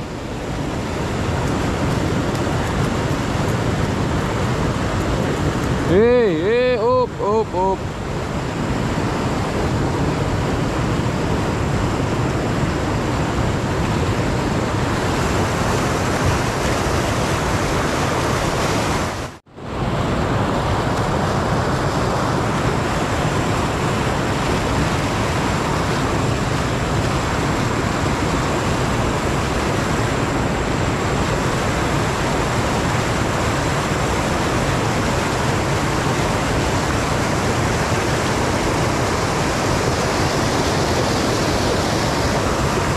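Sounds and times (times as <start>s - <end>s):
river rapids rushing: 0.0s - 42.9s.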